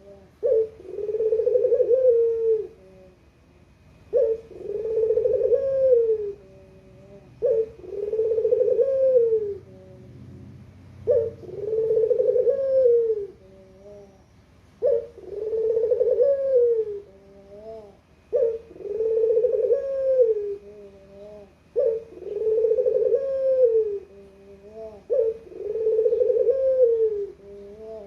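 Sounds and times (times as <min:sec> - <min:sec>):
dove cooing: 0:00.0 - 0:28.0.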